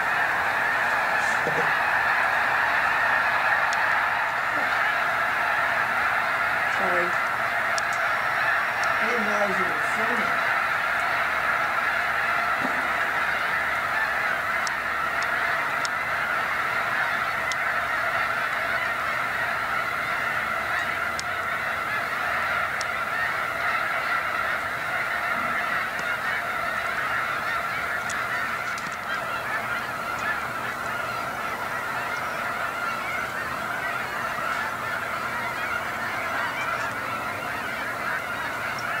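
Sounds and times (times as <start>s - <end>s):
flock of geese honking: 0.0s - 39.0s.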